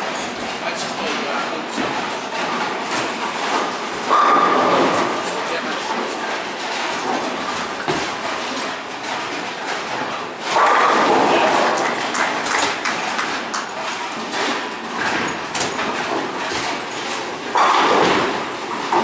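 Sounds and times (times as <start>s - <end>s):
bowling balls rolling: 0.0s - 19.0s.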